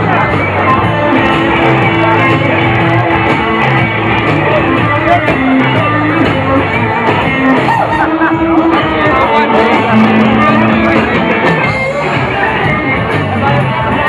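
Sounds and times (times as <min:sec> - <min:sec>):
electric guitar: 0:00.0 - 0:14.0
rock band playing loud music: 0:00.0 - 0:14.0
steady bass line: 0:00.0 - 0:14.0.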